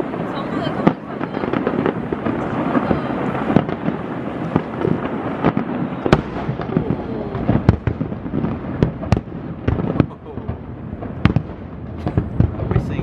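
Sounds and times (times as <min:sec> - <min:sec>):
fireworks crackling: 0:00.0 - 0:13.0
fireworks sharp bangs: 0:00.0 - 0:13.0.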